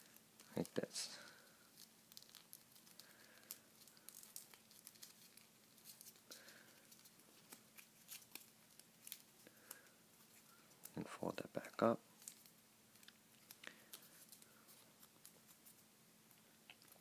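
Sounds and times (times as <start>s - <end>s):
paper crinkling and crackling: 0.0s - 17.0s.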